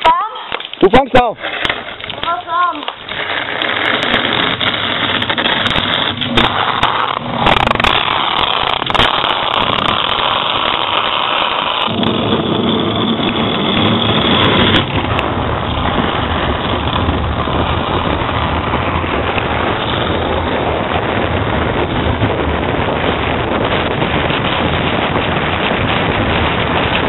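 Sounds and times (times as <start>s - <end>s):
bin wheels rolling on asphalt: 0.0s - 27.0s.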